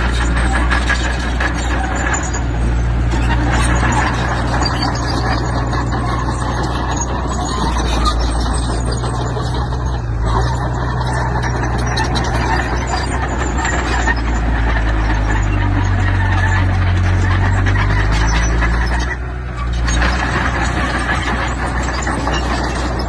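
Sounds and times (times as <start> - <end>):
heavy diesel machinery engine drone: 0.0 - 23.0
rough mechanical clatter: 0.0 - 23.0.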